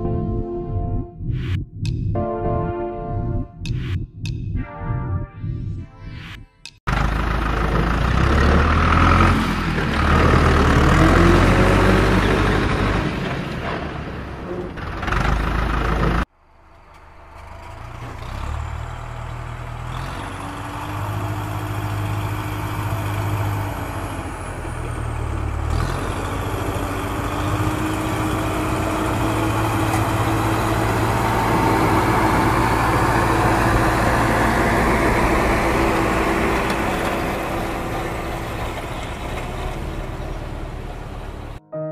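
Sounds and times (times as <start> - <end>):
heavy diesel engine running: 6.9 - 41.6.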